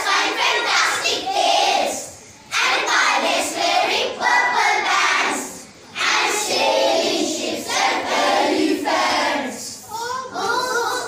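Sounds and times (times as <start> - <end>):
children reciting in unison: 0.0 - 11.0.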